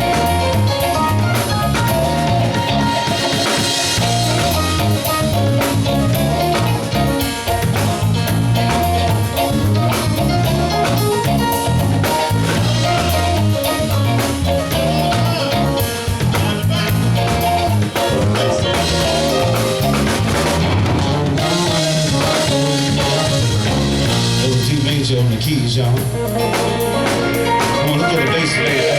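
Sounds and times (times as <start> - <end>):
drum kit beat: 0.0 - 28.9
melodic lead line: 0.0 - 28.9
pulsing bass line: 0.0 - 28.9
soul band playing: 0.0 - 28.9.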